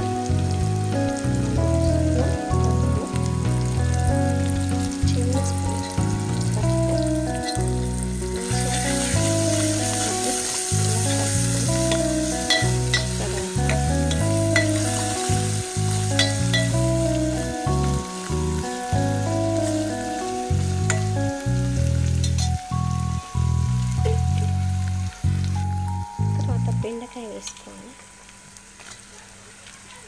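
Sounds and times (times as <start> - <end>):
background music: 0.0 - 28.4
vegetables sizzling in hot oil: 0.0 - 30.0.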